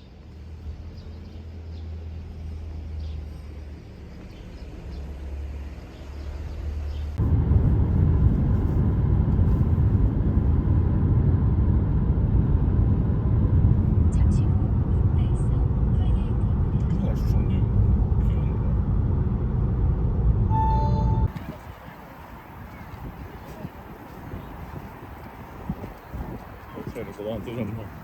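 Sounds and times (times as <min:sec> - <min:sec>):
car rumbling on road: 0:00.0 - 0:28.0.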